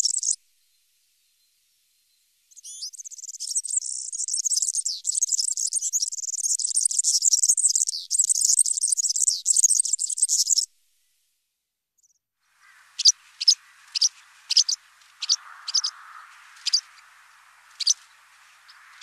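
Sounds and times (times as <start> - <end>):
bird singing high rapid song: 0.0 - 10.7, 12.0 - 19.0.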